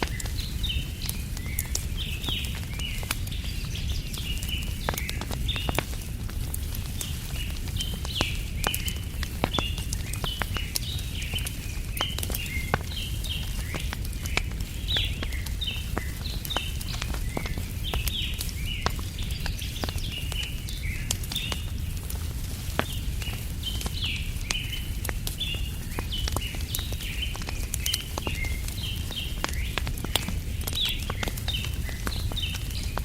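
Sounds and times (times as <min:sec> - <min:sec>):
campfire crackling and popping: 0:00.0 - 0:33.0
small birds chirping: 0:00.0 - 0:33.0.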